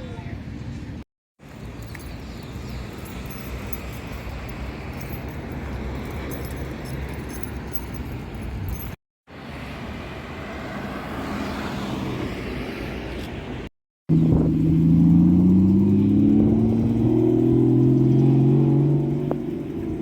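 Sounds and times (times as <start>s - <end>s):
car engine and road rumble: 0.4s - 20.0s.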